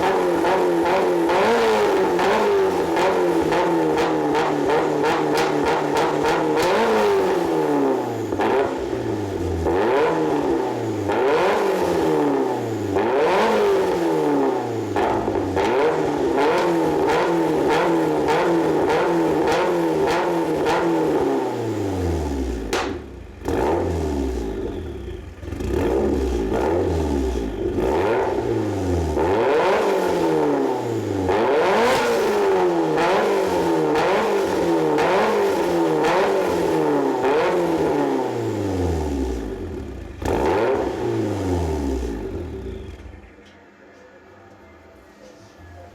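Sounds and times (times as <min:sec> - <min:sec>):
car engine free-revving: 0:00.0 - 0:24.8, 0:25.4 - 0:43.0
car engine idling: 0:00.0 - 0:43.7.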